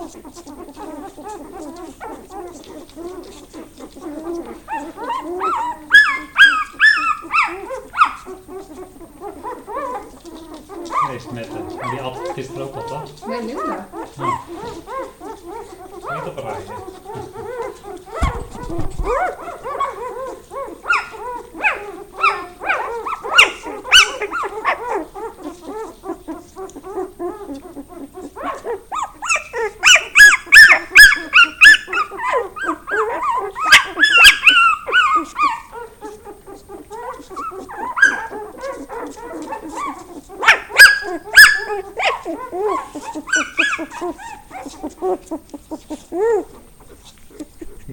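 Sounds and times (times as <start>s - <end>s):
puppies squealing and whining: 0.0s - 47.9s.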